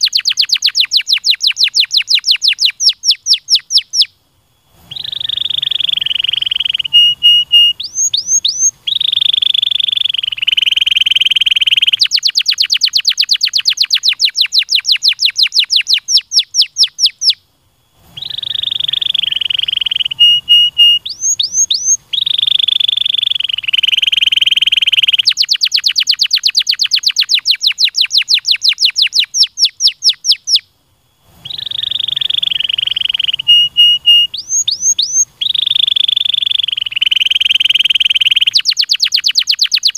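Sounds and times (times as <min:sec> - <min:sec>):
canary singing: 0:00.0 - 0:04.2, 0:04.8 - 0:17.4, 0:18.1 - 0:30.7, 0:31.4 - 0:39.9.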